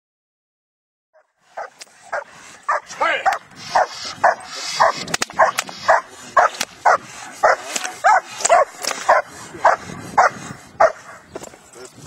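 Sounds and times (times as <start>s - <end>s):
dog barking: 1.2s - 11.2s.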